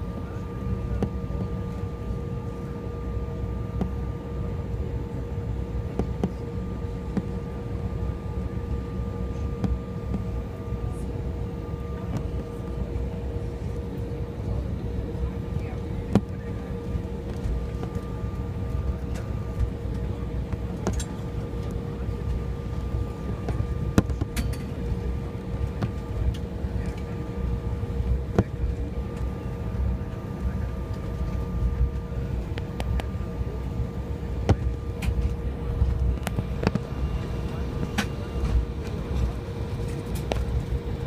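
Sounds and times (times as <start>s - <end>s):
airliner cabin rumble: 0.0s - 41.0s
constant hum: 0.0s - 41.0s.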